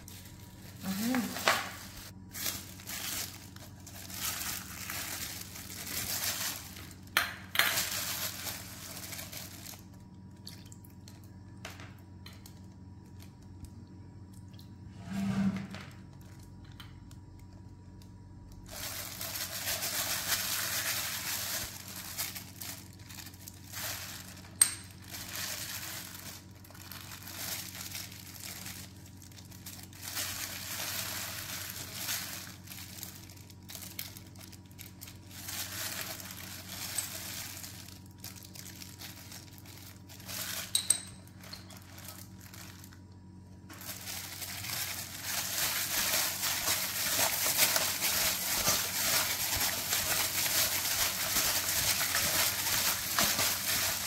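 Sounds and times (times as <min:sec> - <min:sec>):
plastic bag crinkling: 0:00.0 - 0:11.4, 0:16.0 - 0:54.0
low steady hum: 0:00.0 - 0:54.0.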